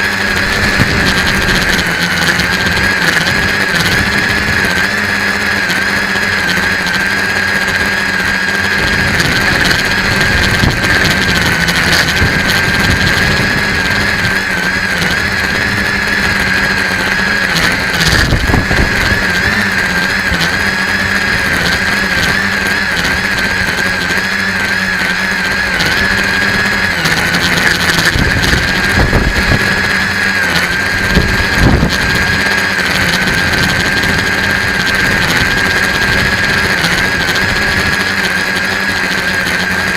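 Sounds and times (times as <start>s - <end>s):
wind buffeting microphone: 0.0s - 5.6s, 8.6s - 24.0s, 25.4s - 38.0s
drone motors whining: 0.0s - 39.9s.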